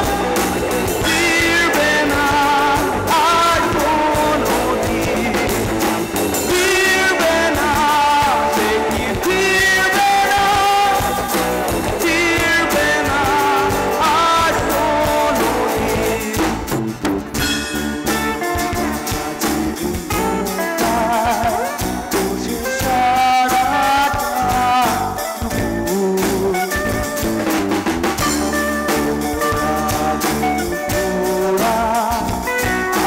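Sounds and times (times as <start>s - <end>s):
man singing: 0.0s - 17.0s, 20.0s - 27.4s, 28.2s - 33.0s
acoustic and electric guitars: 0.0s - 33.0s
drum kit: 0.0s - 33.0s.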